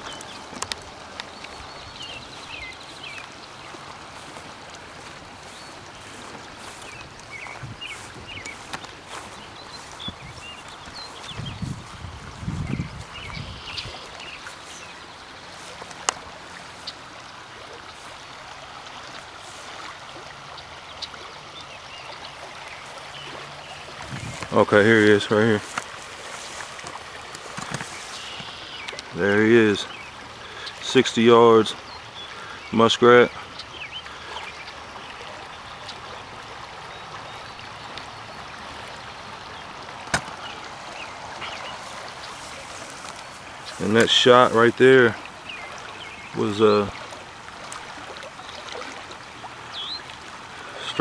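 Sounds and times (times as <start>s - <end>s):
creek running: 0.0s - 51.0s.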